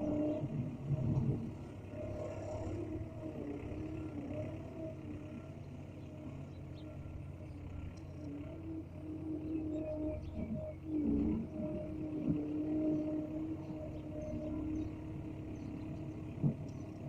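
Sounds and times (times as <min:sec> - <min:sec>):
bulldozer engine running: 0:00.0 - 0:17.0.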